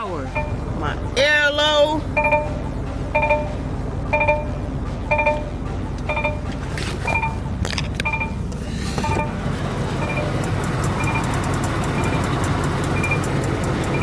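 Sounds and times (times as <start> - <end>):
diesel engine idling: 0.0 - 14.0
air pressure warning beeping: 0.3 - 14.0.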